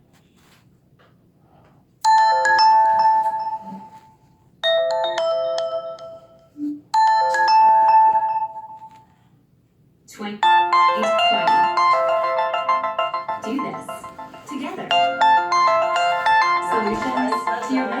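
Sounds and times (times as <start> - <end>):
chiming phone ringtone: 2.0 - 9.1, 10.4 - 18.0.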